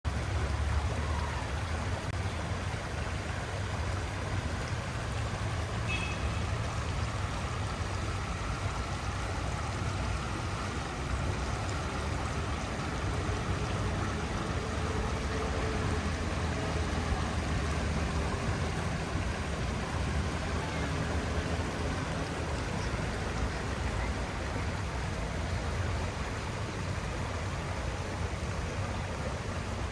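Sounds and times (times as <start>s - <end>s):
stream rushing: 0.0s - 29.9s.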